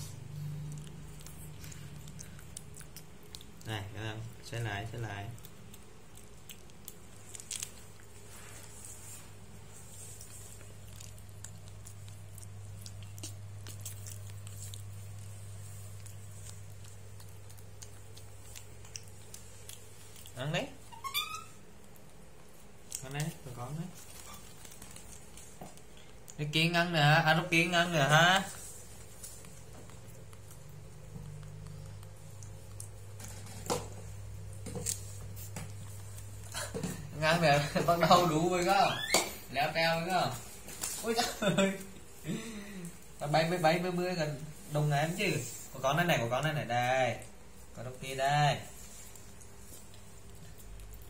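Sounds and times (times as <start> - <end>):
steady low hum: 0.0 - 20.9, 21.5 - 51.0
monkeys chewing food: 0.0 - 51.0.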